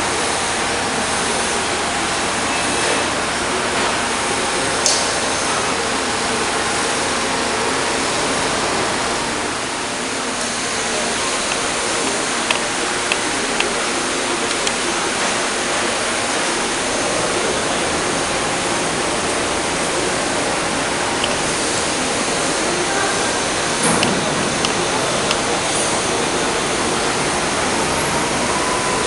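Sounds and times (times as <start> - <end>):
faint machine hum: 0.0 - 29.0.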